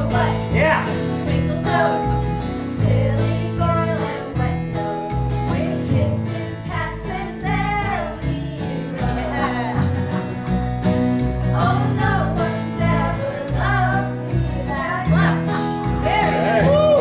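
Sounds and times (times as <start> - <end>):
voices singing along: 0.0 - 10.6, 11.4 - 17.0
upright bass and acoustic guitar: 0.0 - 17.0.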